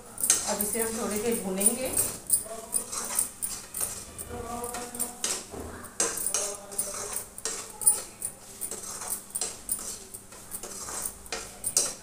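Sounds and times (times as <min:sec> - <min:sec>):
metal spatula scraping a pan: 0:00.0 - 0:12.0.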